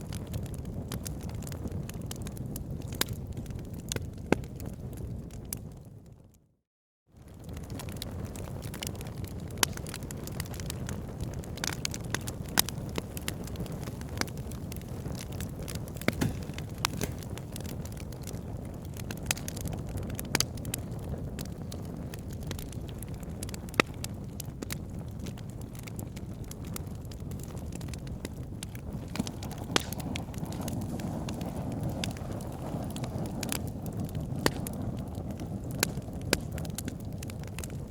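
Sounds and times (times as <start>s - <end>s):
wood fire crackling: 0.0s - 5.8s, 7.2s - 37.9s
low rumble of burning: 0.0s - 6.5s, 7.2s - 37.9s.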